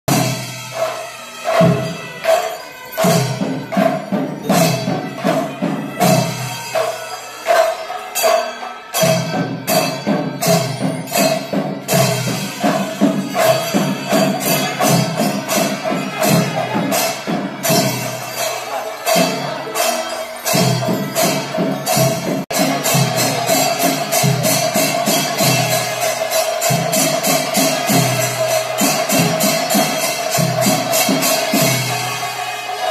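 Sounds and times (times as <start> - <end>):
drum strokes in driving rhythm: 0.1 - 32.9
ringing cymbals: 0.1 - 32.9.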